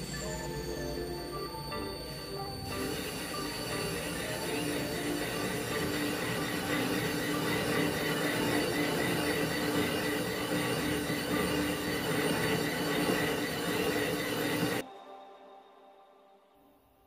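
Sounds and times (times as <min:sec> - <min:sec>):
lathe whining: 0:00.0 - 0:14.8.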